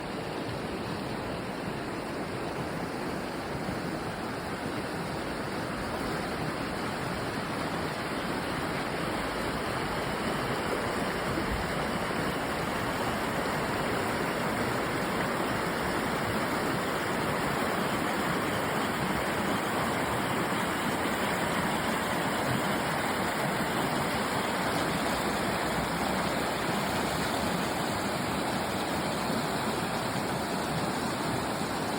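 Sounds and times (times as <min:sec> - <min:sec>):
water rushing in a stream: 0:00.0 - 0:31.9.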